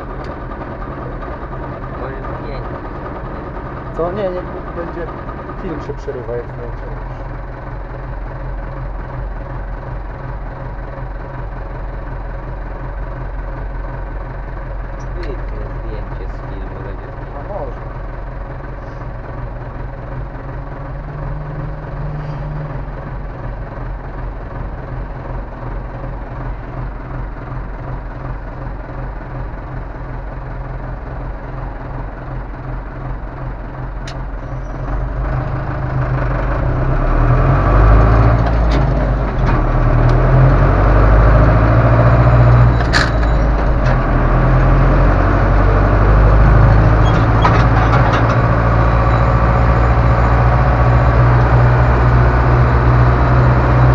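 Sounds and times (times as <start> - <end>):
tractor diesel engine: 0.0 - 53.9.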